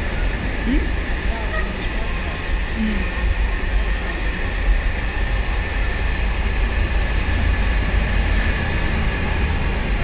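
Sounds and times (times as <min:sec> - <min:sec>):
train wheels running on rails: 0:00.0 - 0:10.0.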